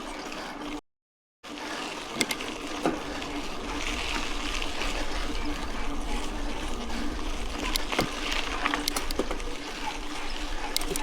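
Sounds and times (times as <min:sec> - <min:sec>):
bike tyres on gravel: 0:01.5 - 0:10.9
bike clicks and rattles: 0:01.6 - 0:11.0.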